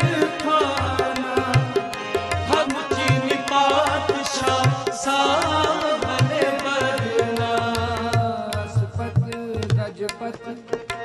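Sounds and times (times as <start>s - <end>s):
harmoniums holding notes: 0.0s - 11.0s
tabla rhythm: 0.0s - 11.0s.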